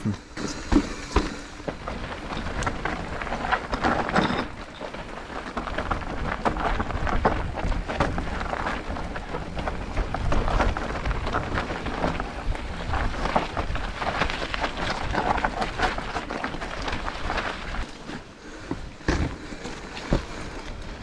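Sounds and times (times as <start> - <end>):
bike clattering over stones and roots: 0.5 - 21.0
wind rumbling on microphone: 1.5 - 21.0.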